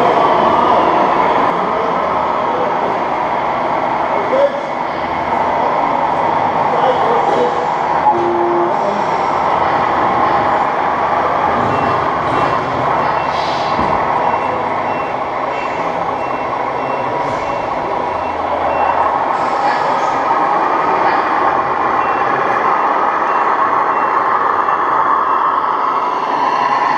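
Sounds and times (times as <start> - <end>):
steady loud noise: 0.0 - 26.9.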